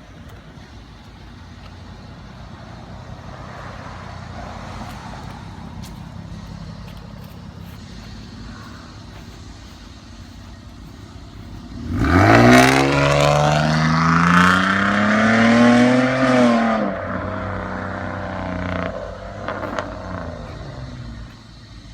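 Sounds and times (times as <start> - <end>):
car engine exhaust revving: 0.0 - 21.9.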